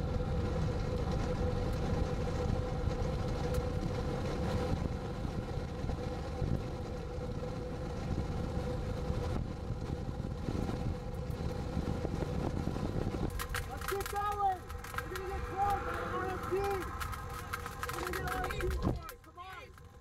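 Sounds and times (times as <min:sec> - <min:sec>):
car engine hum: 0:00.0 - 0:20.0
car road rumble: 0:00.0 - 0:20.0.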